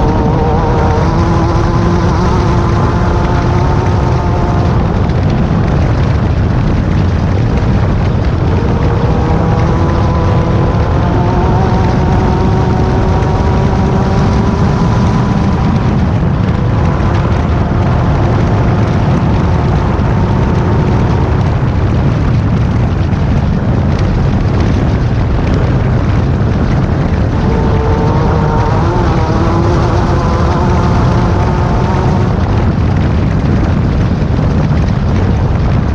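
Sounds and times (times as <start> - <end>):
loud continuous low noise: 0.0 - 35.9
race car engine: 0.0 - 35.9.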